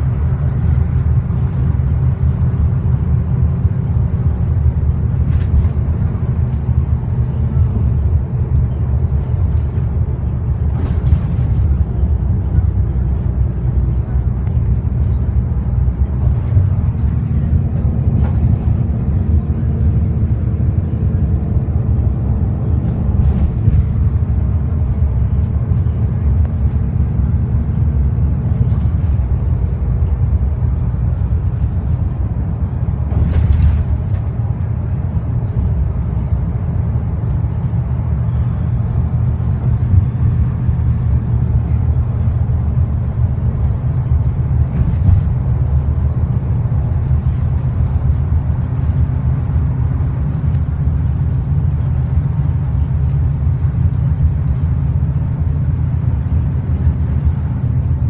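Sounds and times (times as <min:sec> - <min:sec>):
bus diesel engine drone: 0:00.0 - 0:58.0
road and tyre noise: 0:00.0 - 0:58.0.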